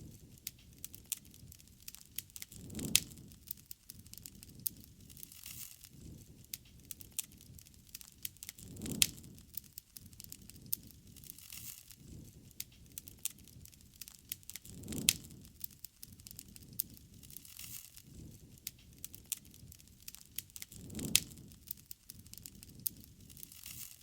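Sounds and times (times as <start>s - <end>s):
low rush of flames: 0.0s - 24.0s
wood fire crackling: 0.0s - 24.0s.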